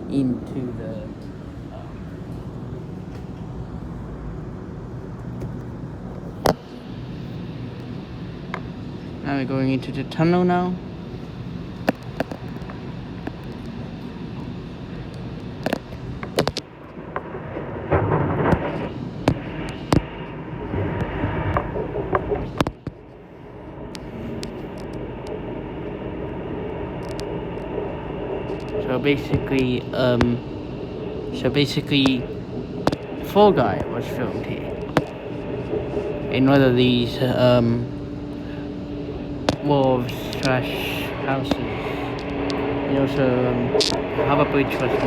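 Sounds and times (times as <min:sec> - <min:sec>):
electric train rumbling inside: 0:00.0 - 0:45.0.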